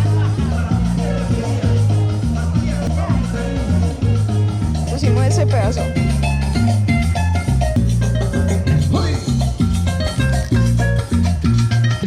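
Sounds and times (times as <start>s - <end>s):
salsa music over loudspeaker: 0.0s - 12.0s.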